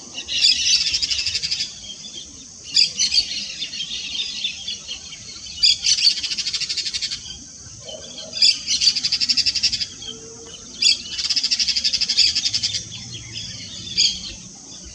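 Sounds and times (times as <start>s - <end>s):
faint bird chatter: 0.0s - 14.9s.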